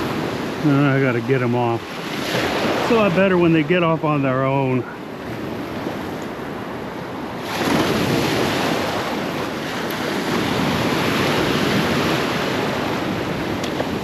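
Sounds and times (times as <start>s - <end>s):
surf washing and breaking: 0.0s - 14.0s.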